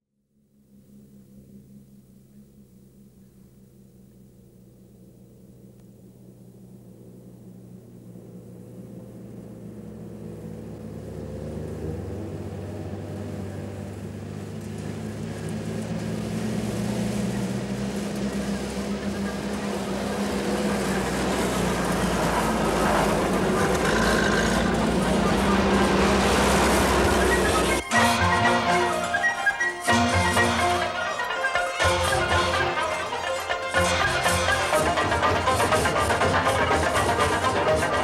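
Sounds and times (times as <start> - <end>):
tyre and road noise: 0.9 - 38.0
jeep engines driving: 1.2 - 38.0.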